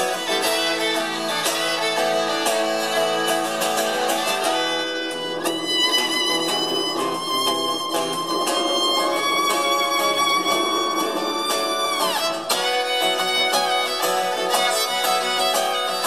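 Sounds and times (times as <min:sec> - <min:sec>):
acoustic guitar: 0:00.0 - 0:16.0
fiddle melody: 0:00.0 - 0:16.0.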